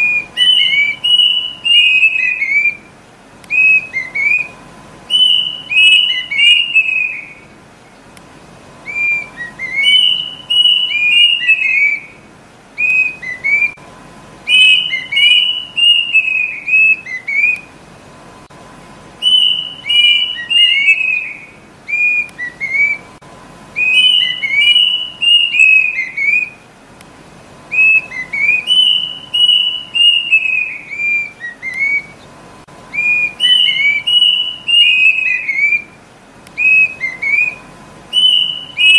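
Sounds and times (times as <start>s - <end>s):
cuckoo whistled song: 0.0s - 8.0s, 8.8s - 13.8s, 14.4s - 17.8s, 19.2s - 26.7s, 27.6s - 38.9s.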